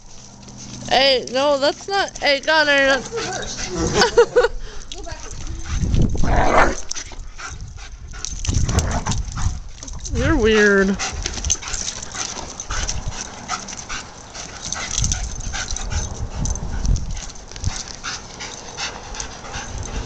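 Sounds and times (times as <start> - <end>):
low rumbles: 0.0 - 20.0
dog panting: 2.6 - 6.2, 6.8 - 20.0.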